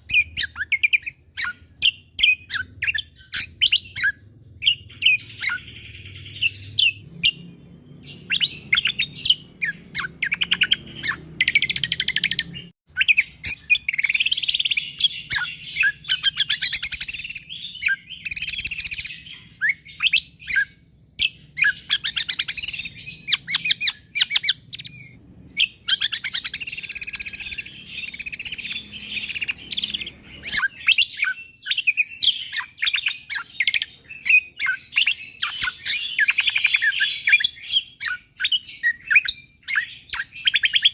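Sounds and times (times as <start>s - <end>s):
bird rapid chirps and trills: 0.0s - 40.9s.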